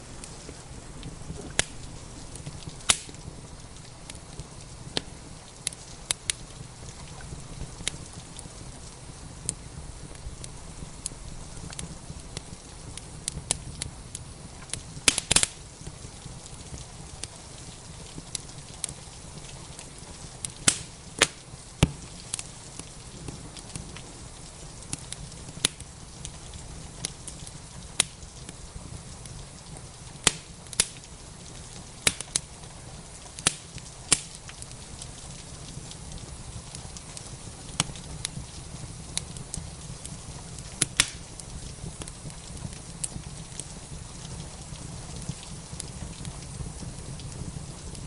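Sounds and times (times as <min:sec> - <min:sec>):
rain hiss: 0:00.0 - 0:48.0
wood fire crackling and popping: 0:00.0 - 0:48.0.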